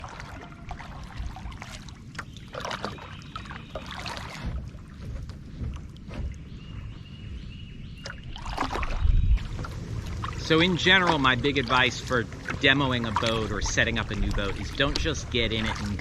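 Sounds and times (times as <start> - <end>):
constant low rumble: 0.0 - 16.0
kayak paddle splashing: 0.0 - 16.0.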